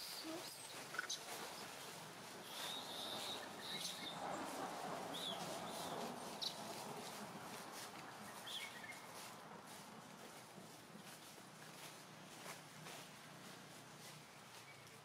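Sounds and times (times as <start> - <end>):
birds chirping: 0.0 - 15.0
faint outdoor hiss: 0.0 - 15.0.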